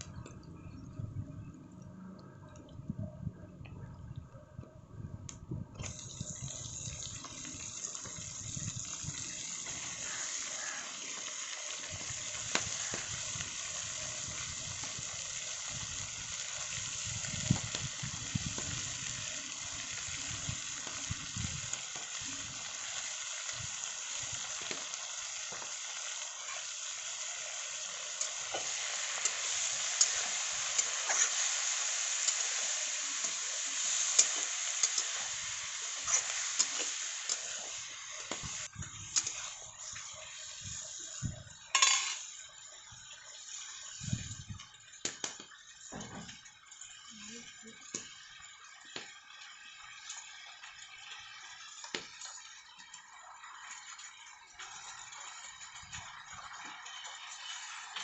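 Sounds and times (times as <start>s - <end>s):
food sizzling in a pan: 5.8s - 58.0s.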